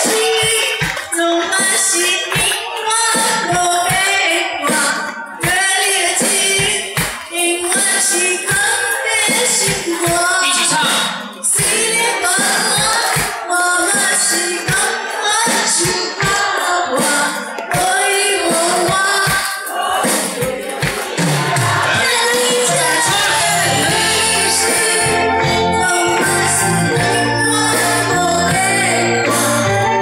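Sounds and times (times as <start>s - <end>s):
woman singing: 0.0s - 20.6s, 21.6s - 30.0s
live band playing pop song: 0.0s - 30.0s
steady drum beat: 0.0s - 30.0s.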